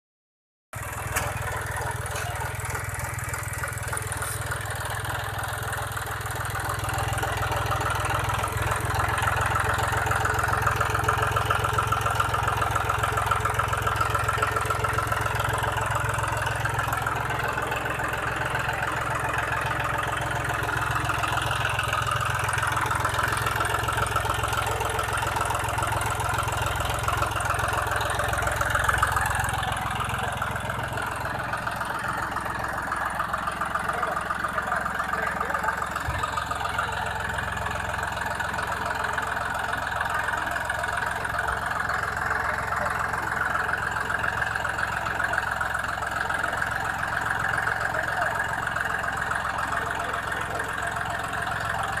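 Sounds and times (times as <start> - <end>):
tractor diesel engine running: 0.7 - 52.0.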